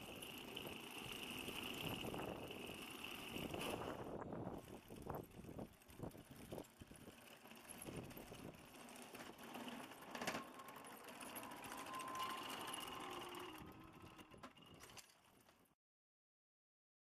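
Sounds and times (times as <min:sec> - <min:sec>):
electric motors whining: 0:00.0 - 0:15.1.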